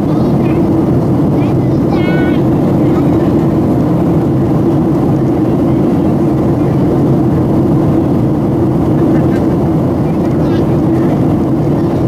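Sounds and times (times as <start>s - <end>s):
constant low hum: 0.0s - 12.0s
jet engines droning: 0.0s - 12.0s
rushing air: 0.0s - 12.0s.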